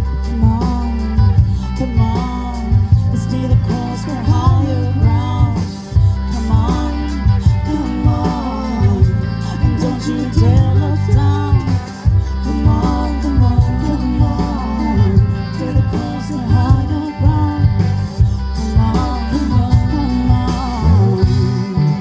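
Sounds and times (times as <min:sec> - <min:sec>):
live band playing a song: 0:00.0 - 0:22.0
person singing: 0:00.0 - 0:22.0.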